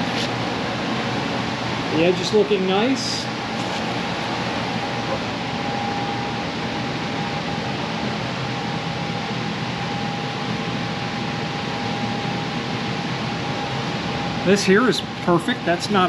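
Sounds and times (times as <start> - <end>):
faint steady whine: 0.0 - 16.0
fan-like rushing noise: 0.0 - 16.0.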